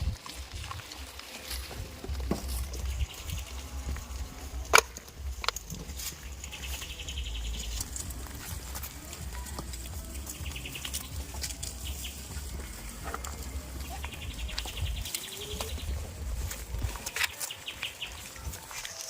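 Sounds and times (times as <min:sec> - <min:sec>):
steady low rumble: 0:00.0 - 0:17.2
small birds chirping: 0:00.0 - 0:19.0.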